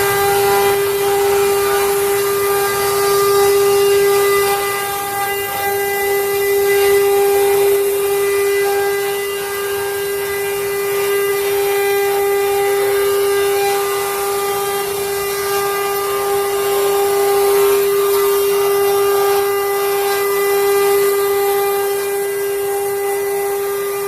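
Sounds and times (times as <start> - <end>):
hiss of wood cutting: 0.0 - 24.0
router spindle whine: 0.0 - 24.0.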